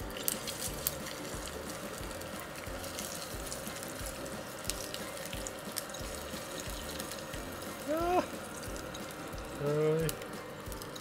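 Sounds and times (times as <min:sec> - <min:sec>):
egg sizzling in frying pan: 0:00.0 - 0:11.0.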